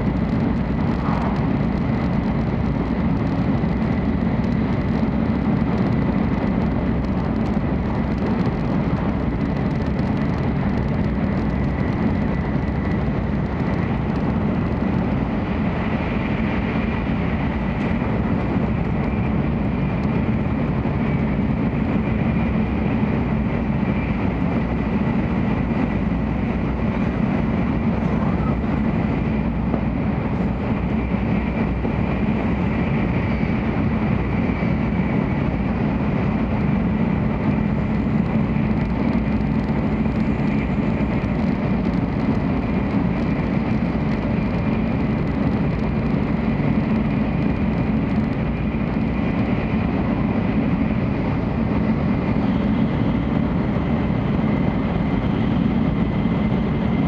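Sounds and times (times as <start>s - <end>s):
train interior rumble and rush: 0.0s - 57.0s.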